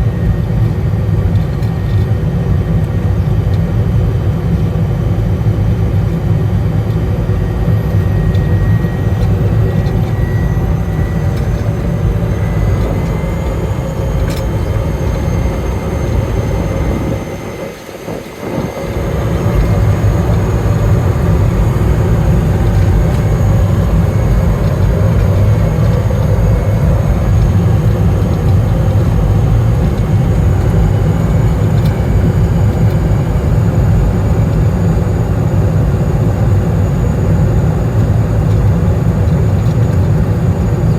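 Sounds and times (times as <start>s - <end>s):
propeller drone: 0.0s - 40.9s
turbine whine: 0.0s - 40.9s.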